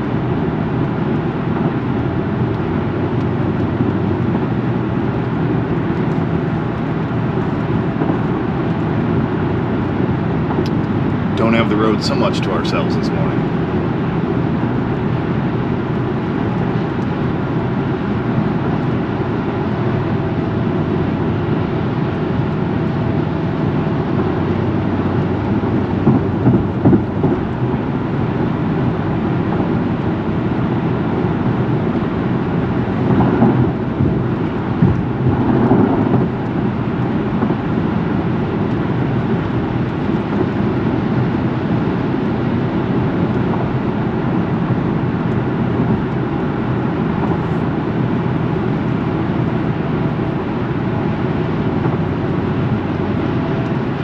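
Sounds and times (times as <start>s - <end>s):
running vehicle rumble: 0.0s - 54.0s.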